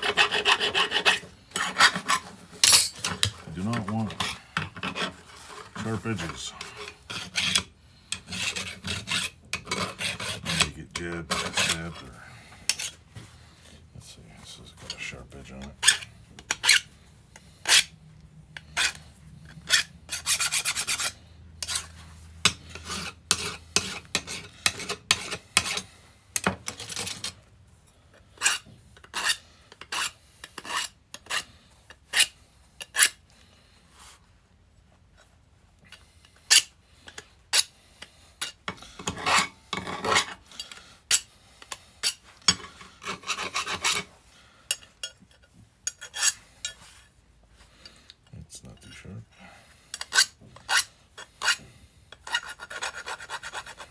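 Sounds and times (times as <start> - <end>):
hand file scraping steel: 0.0 - 13.8, 14.4 - 18.0, 18.6 - 27.4, 28.2 - 34.2, 35.9 - 48.0, 49.8 - 53.9.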